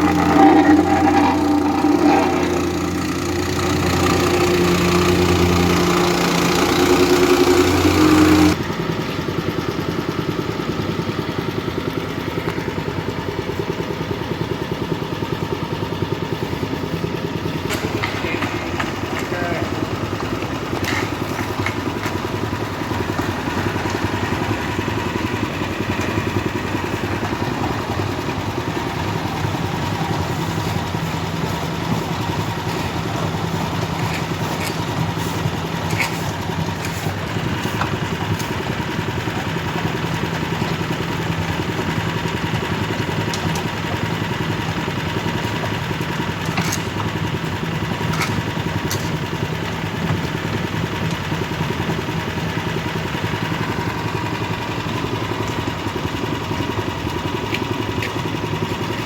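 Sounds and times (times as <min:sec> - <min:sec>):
heavy machinery engines humming: 0:00.0 - 0:59.0.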